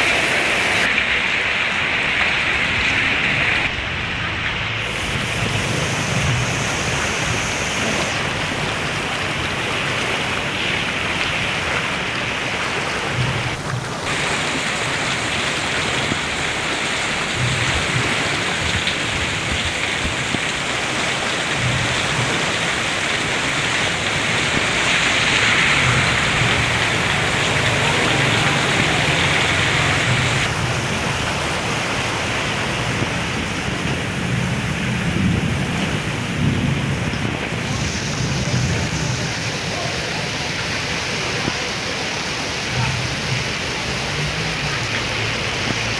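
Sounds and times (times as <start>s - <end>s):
heavy rain pouring: 0.0s - 45.9s
low rumbles of wind or thunder: 2.0s - 40.5s.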